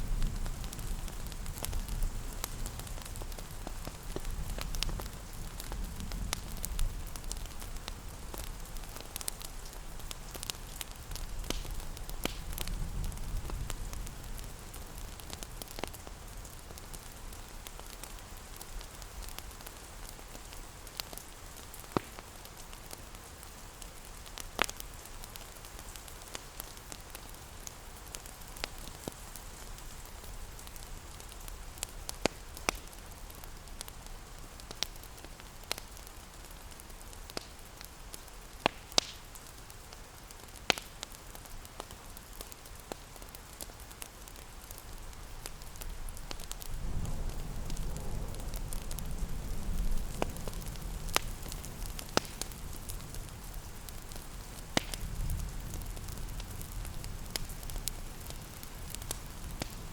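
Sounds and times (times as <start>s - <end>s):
rain pattering: 0.0s - 59.9s
sharp pops of fire: 0.0s - 59.9s
wood fire crackling: 0.0s - 59.9s.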